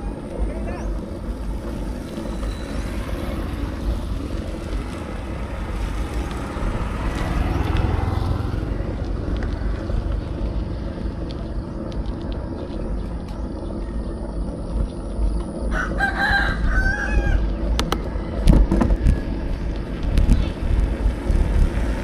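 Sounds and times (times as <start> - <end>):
motor vehicle passing: 0.0 - 22.0
wind buffeting microphone: 0.0 - 22.0.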